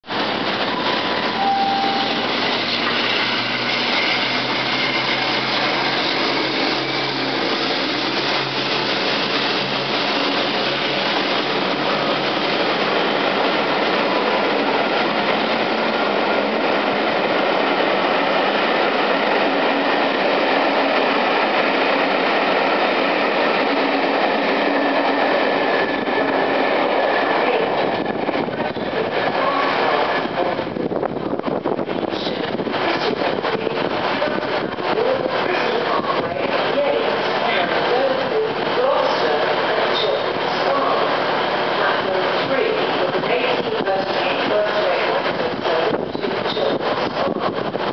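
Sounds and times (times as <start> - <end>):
diesel locomotive engines running: 0.1 - 47.9
train wheels on rails: 0.1 - 47.9.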